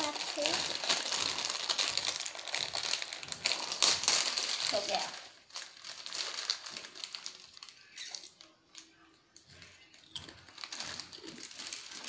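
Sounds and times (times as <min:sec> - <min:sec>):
foil chips packet crinkling: 0:00.0 - 0:12.0.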